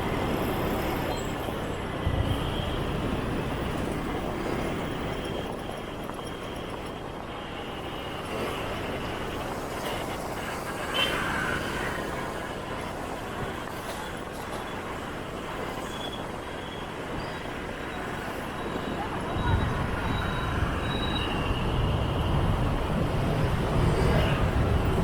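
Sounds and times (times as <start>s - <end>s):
motorbike and scooter traffic: 0.0s - 25.0s
road noise: 0.0s - 25.0s.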